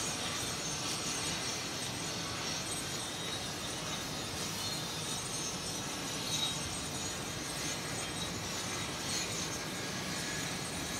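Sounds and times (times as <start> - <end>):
thin high whine: 0.0 - 10.9.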